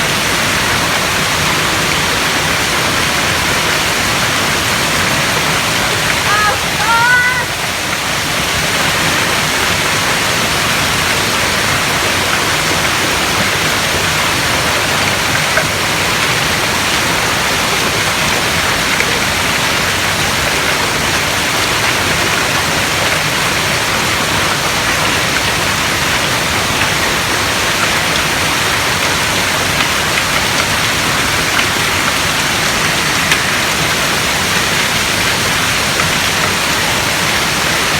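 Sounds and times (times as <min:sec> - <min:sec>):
heavy hail and rain: 0:00.0 - 0:37.9.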